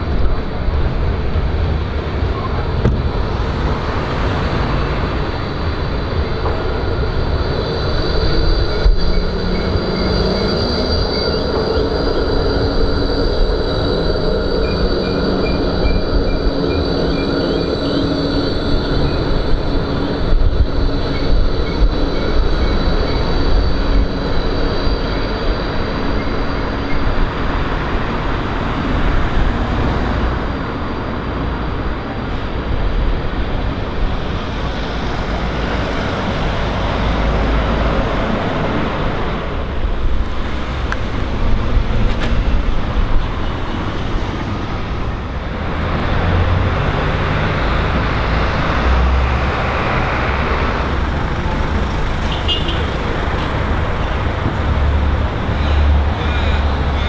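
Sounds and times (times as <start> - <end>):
tram motors whining: 0.0 - 57.0
wheels squealing on rails: 0.0 - 57.0.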